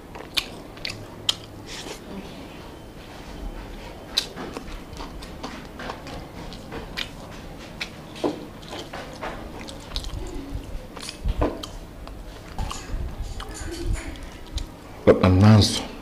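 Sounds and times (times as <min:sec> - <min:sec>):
man chewing with wet mouth sounds: 0:00.0 - 0:14.9.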